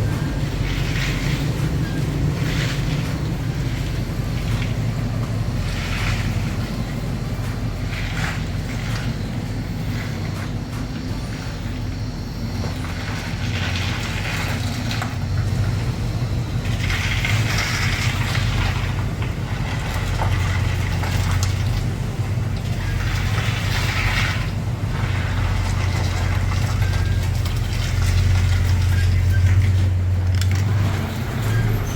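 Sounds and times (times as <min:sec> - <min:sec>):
engine and road drone: 0:00.0 - 0:31.9.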